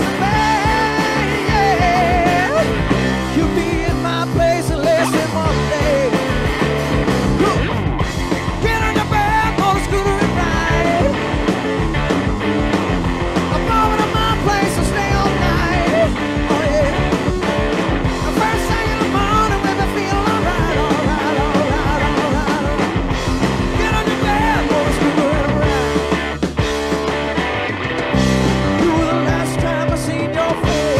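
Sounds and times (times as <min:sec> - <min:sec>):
man singing lead vocal: 0:00.0 - 0:11.4, 0:13.4 - 0:26.4, 0:28.4 - 0:30.9
bass: 0:00.0 - 0:30.9
distorted electric guitar: 0:00.0 - 0:30.9
drums: 0:00.0 - 0:30.9.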